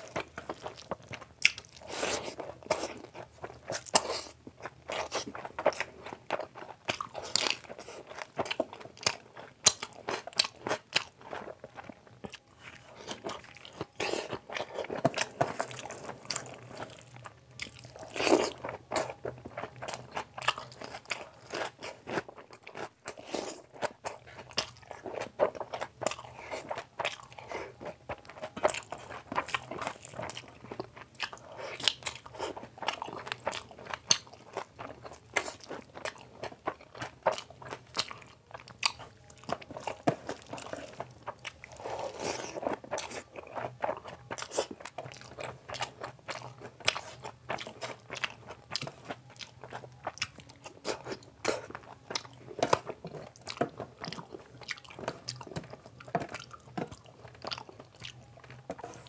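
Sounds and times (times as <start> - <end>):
person chewing and mouth sounds: 0.0 - 59.0.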